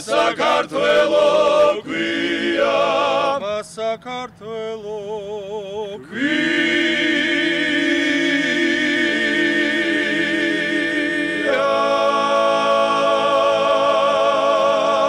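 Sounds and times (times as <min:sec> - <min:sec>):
male choir singing a cappella: 0:00.0 - 0:15.0.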